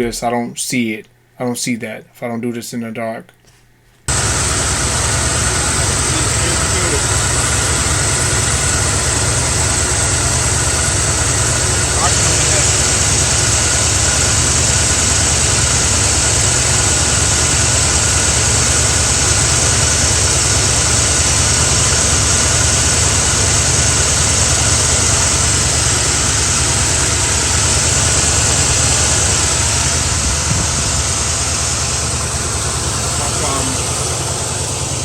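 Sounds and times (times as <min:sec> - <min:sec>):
car engine idling with misfire: 0:04.1 - 0:35.0.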